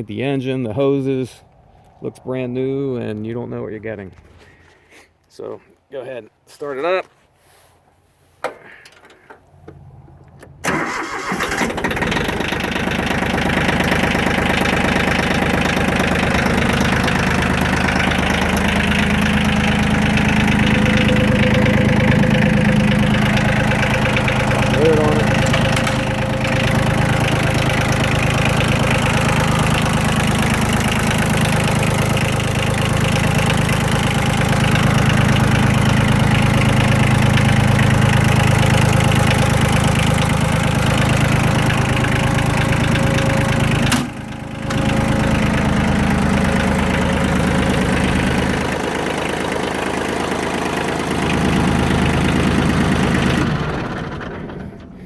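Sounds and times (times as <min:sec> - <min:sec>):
tractor diesel engine running: 0:08.5 - 0:55.0.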